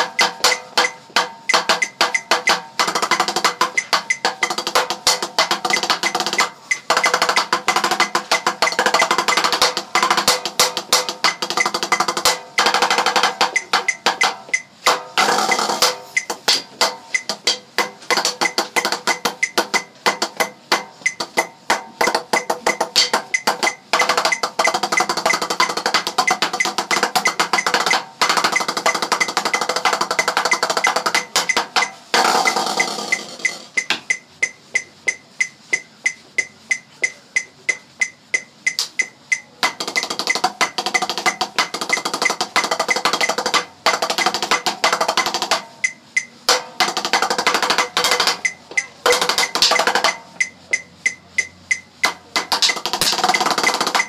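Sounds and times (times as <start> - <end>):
percussive music with ringing notes: 0.0 - 54.0.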